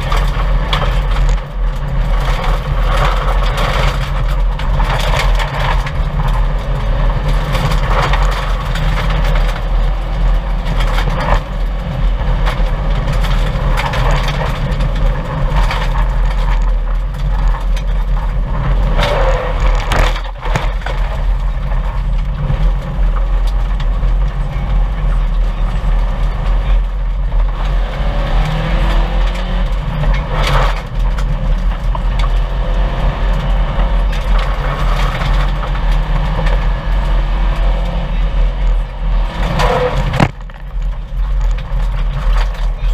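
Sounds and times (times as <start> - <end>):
gravel knocking against car: 0.0 - 38.0, 38.6 - 42.9
rally car engine: 0.0 - 42.9.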